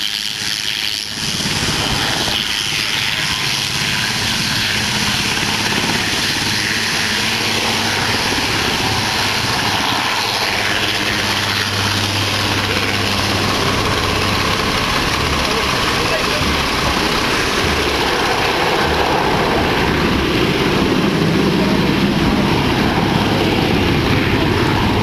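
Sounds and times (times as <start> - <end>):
helicopter rotor and turbine noise: 0.0 - 25.0.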